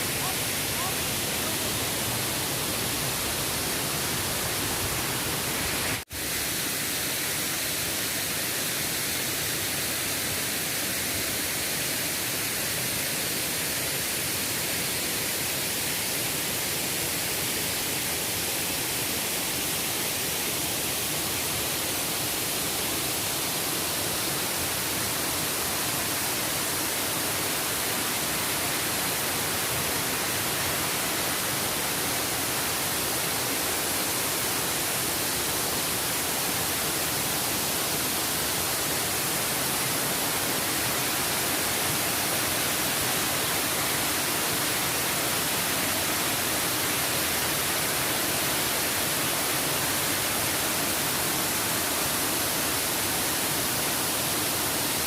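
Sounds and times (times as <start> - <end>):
falling water rushing: 0.0 - 55.0.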